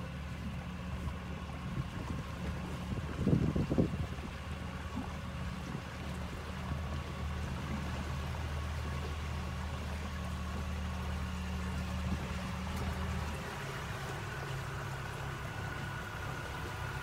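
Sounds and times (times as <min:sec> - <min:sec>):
motorboat engine running: 0:00.0 - 0:17.0
water rushing along hull: 0:00.0 - 0:17.0.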